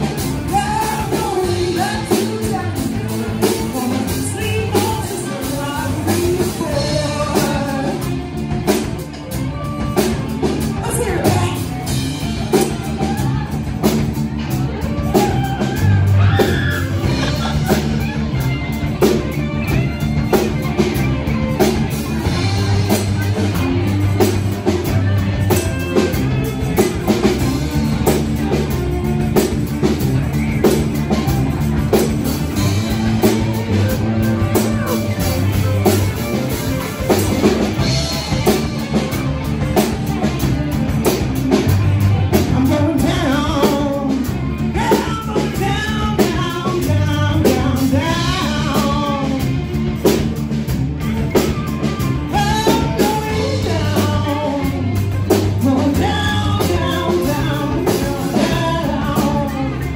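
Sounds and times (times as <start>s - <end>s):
drum kit beat: 0.0s - 59.9s
electric bass guitar: 0.0s - 59.9s
electric guitar: 0.0s - 59.9s.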